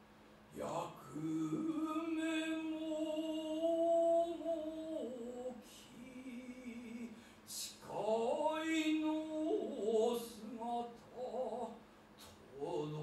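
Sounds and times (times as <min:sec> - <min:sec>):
person singing long notes: 0:00.6 - 0:11.8.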